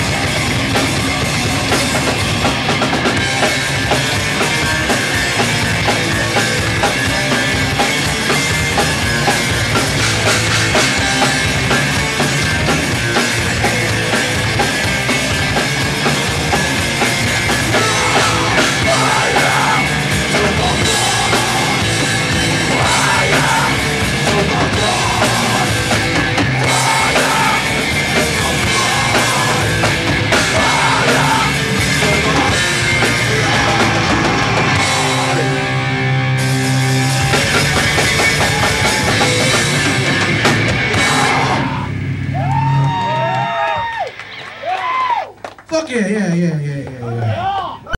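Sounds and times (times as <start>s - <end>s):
punk band playing live: 0.0s - 47.9s.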